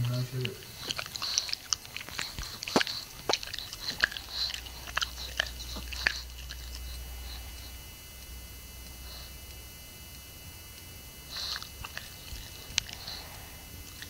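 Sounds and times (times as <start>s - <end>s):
dog chewing with mouth smacks: 0.0s - 9.6s, 11.2s - 14.0s.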